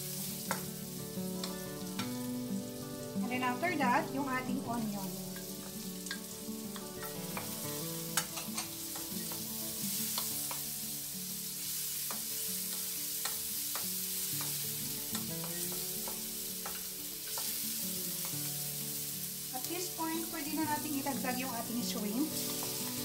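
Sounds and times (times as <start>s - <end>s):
food sizzling in butter: 0.0s - 23.0s.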